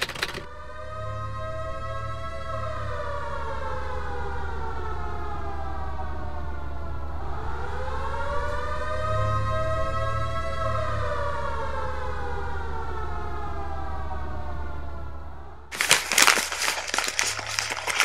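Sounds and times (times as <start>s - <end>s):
air-raid siren wailing: 0.5s - 15.0s.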